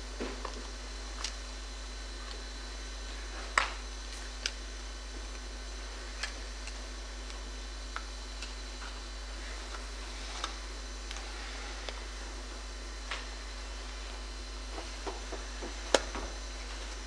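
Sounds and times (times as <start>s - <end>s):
low mains hum: 0.0s - 17.0s.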